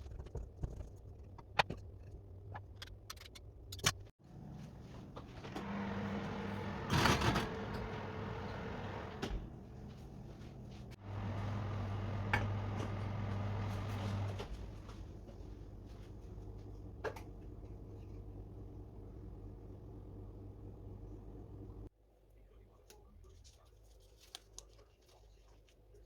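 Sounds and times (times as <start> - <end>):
appliance electrical hum: 0.3 - 26.0.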